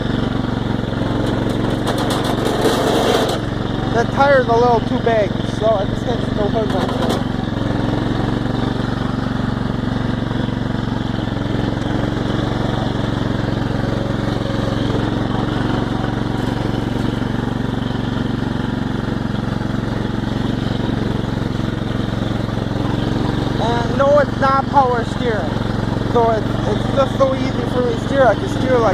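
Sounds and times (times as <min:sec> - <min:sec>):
small tractor engine running: 0:00.0 - 0:28.9.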